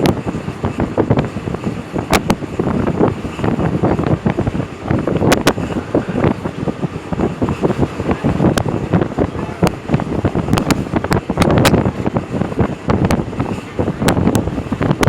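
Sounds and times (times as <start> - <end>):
rumbling vehicle noise: 0.0 - 15.0
wind buffeting microphone: 0.0 - 15.0.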